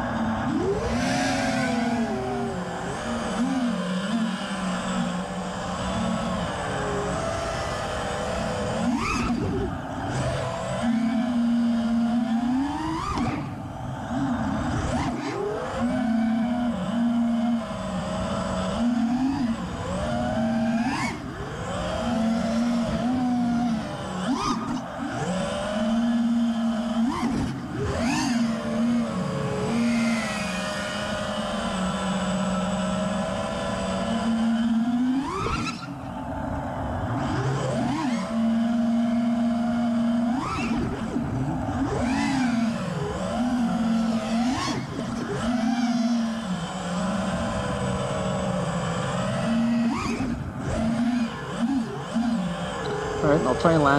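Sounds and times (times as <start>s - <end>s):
quadcopter motors buzzing whine: 0.0s - 53.9s.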